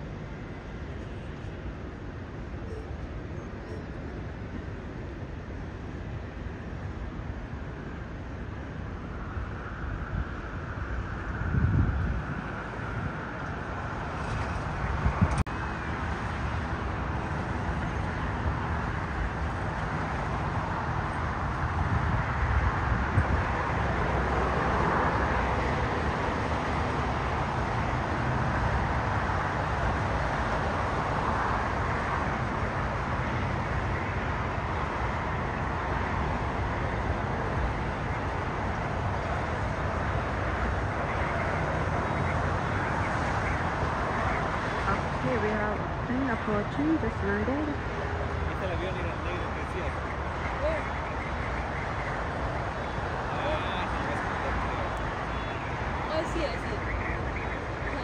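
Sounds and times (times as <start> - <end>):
distant jet aircraft rumble: 0.0 - 58.0
road traffic: 0.0 - 58.0.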